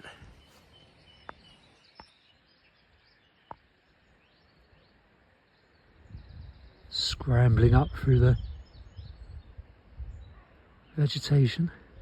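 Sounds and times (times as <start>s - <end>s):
faint distant birdsong: 0.0s - 12.0s.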